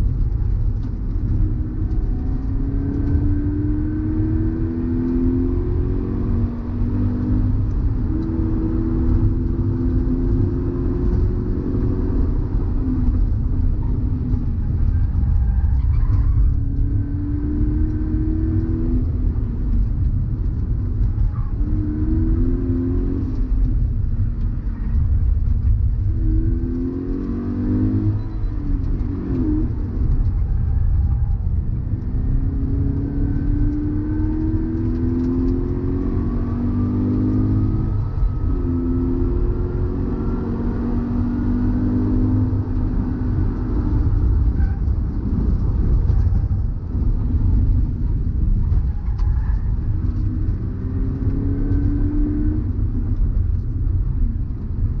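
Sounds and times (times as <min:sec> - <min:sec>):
car engine revving through gears: 0:00.0 - 0:53.8
road and wind rumble: 0:00.0 - 0:55.0.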